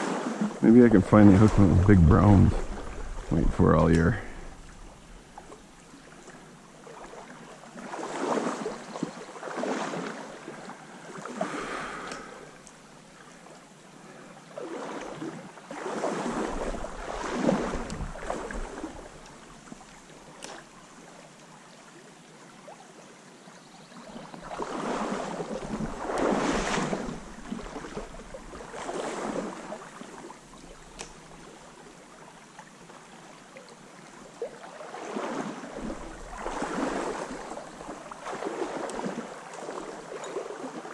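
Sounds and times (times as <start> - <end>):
stream rushing: 0.0 - 13.4, 14.1 - 20.7, 24.4 - 32.8, 33.8 - 40.9
water sloshing around wading legs: 0.0 - 22.5, 24.1 - 40.9.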